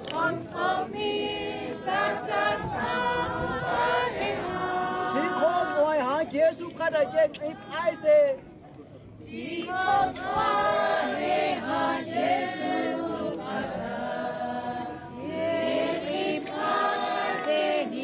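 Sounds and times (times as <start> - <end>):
congregation singing a hymn: 0.0 - 6.5, 9.2 - 18.0.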